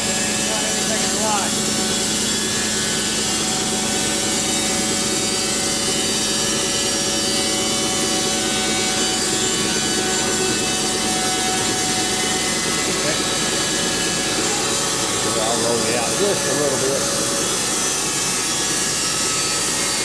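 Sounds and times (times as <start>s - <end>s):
band saw cutting log: 0.0s - 20.0s
motor running under load: 0.0s - 20.0s.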